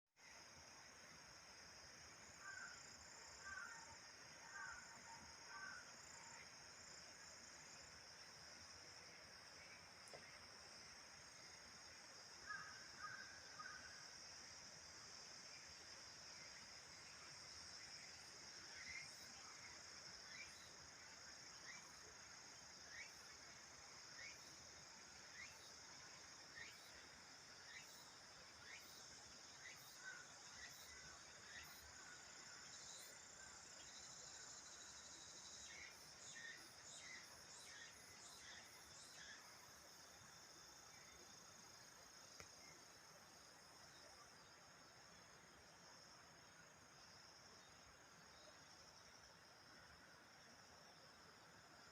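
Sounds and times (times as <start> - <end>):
insect chorus drone: 0.2 - 51.9.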